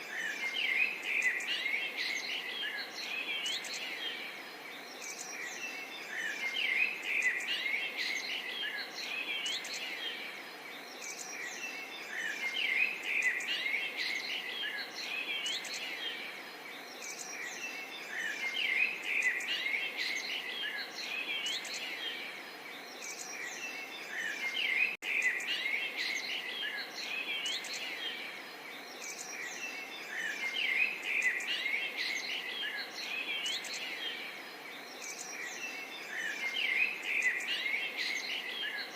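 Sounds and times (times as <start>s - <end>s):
birds chirping and calling: 0.0s - 38.9s
steady background hiss: 0.0s - 38.9s.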